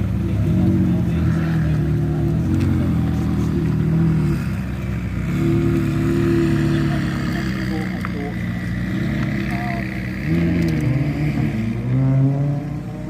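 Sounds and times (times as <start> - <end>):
sports car engine at low revs: 0.0 - 13.0.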